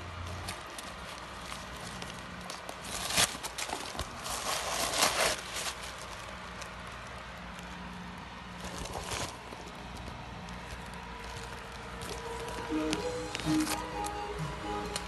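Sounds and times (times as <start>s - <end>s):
tissue paper crinkling: 0.0s - 15.0s.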